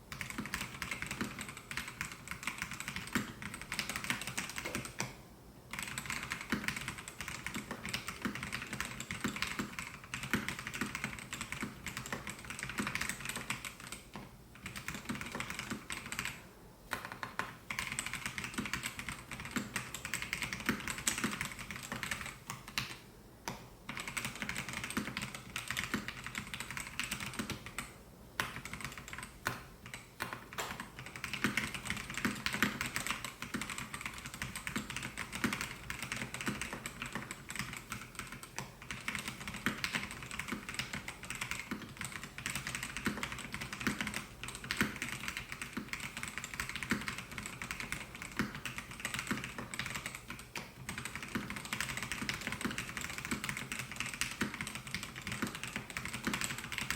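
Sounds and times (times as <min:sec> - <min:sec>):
mechanical keyboard typing: 0:00.1 - 0:05.1, 0:05.7 - 0:23.0, 0:23.9 - 0:56.9.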